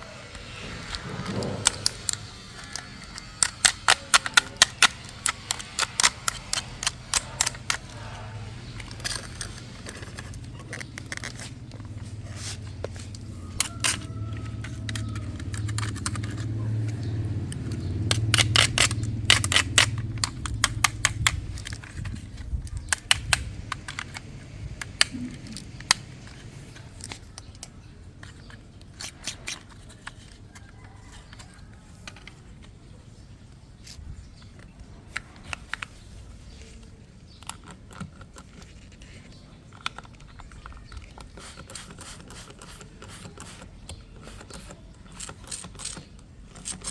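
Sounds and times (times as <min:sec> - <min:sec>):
clicks and taps of toy parts: 0:01.6 - 0:12.0, 0:12.8 - 0:32.8, 0:33.8 - 0:46.9.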